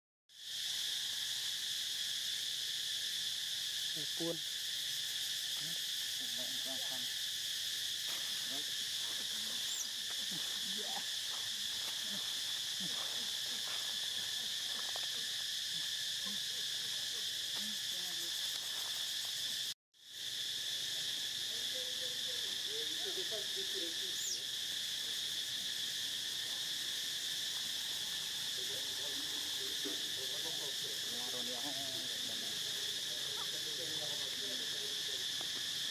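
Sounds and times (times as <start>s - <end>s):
insects droning: 0.3s - 35.9s.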